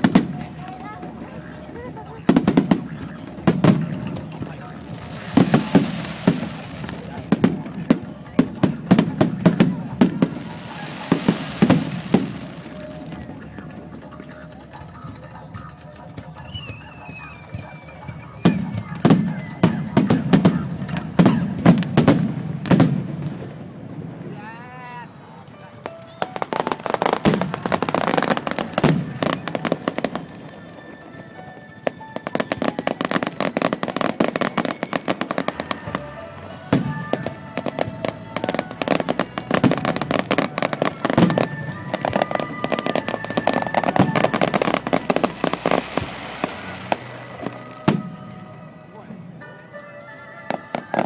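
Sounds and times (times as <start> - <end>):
fireworks crackling: 0.0 - 51.0
music: 0.0 - 51.0.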